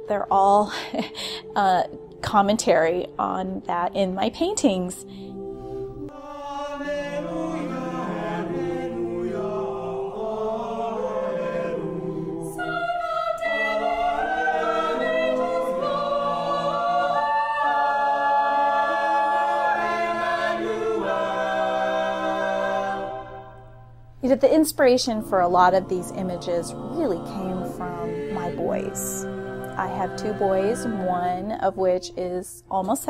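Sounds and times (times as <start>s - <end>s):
choir singing held chords: 0.0s - 32.8s.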